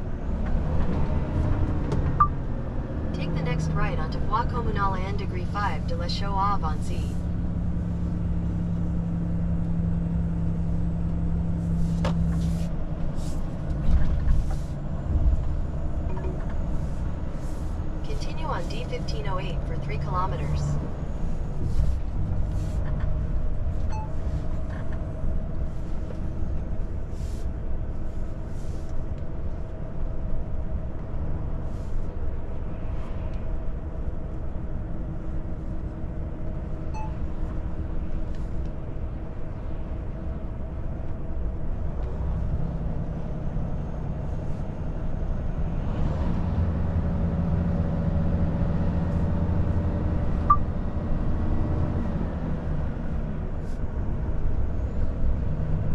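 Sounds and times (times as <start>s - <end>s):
truck diesel engine from cab: 0.0s - 32.8s, 33.5s - 55.9s.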